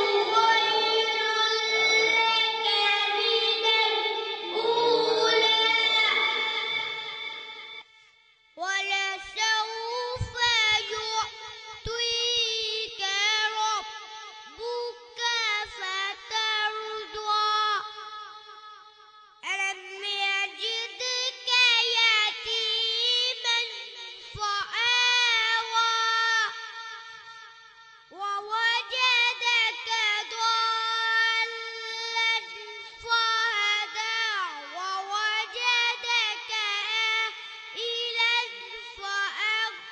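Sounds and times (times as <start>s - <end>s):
boy singing unaccompanied: 0.0s - 7.2s, 8.6s - 18.0s, 19.4s - 26.9s, 28.1s - 39.9s.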